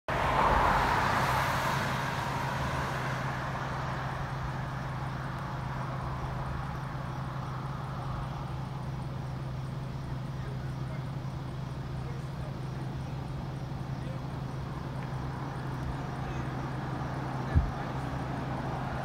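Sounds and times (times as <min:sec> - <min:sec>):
car passing: 0:00.1 - 0:19.0.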